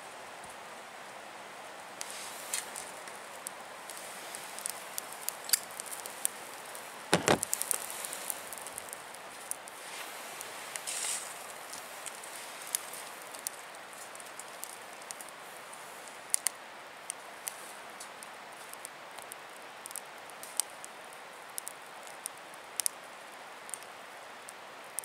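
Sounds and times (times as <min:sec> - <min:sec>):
fire crackling and popping: 0:02.0 - 0:25.0.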